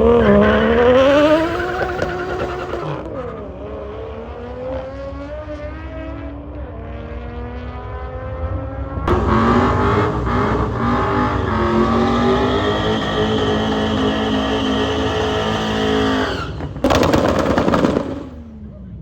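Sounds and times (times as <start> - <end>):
car engine revving hard: 0.0 - 6.1, 9.1 - 18.2.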